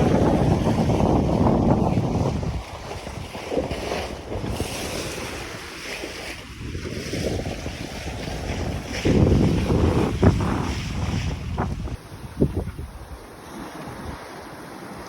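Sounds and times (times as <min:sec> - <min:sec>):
sea water rushing past boat: 0:00.0 - 0:15.0
wind buffeting microphone: 0:00.0 - 0:15.0.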